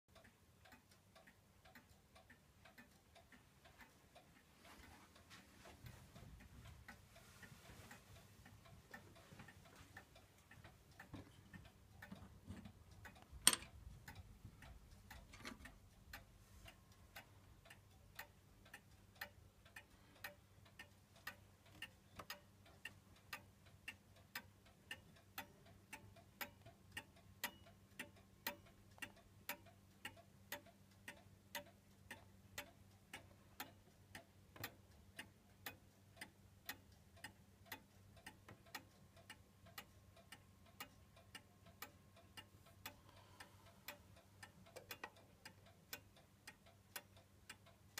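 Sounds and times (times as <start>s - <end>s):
clock ticking faintly: 0.1s - 47.9s.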